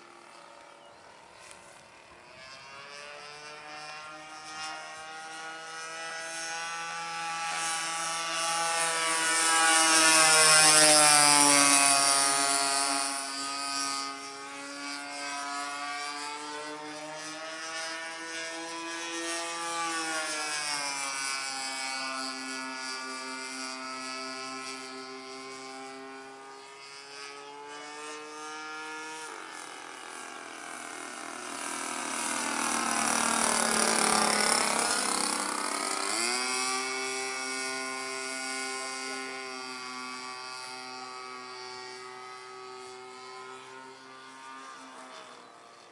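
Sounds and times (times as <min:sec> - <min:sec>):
model plane engine droning: 0:00.0 - 0:45.9.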